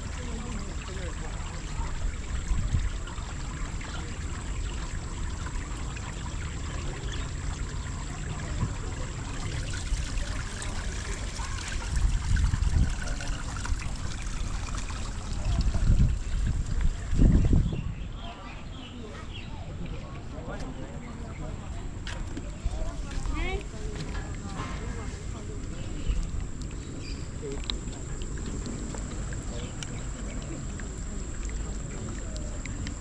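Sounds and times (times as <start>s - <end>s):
water trickling: 0.0s - 18.2s, 18.8s - 33.0s.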